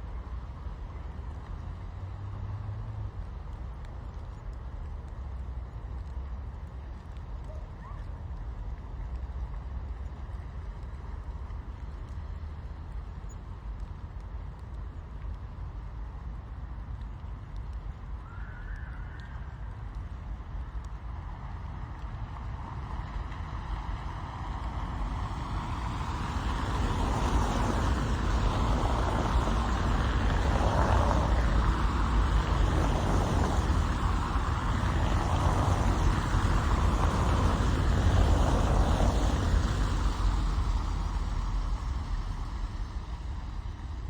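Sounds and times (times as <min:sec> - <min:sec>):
vehicle rumble: 0:00.0 - 0:44.0.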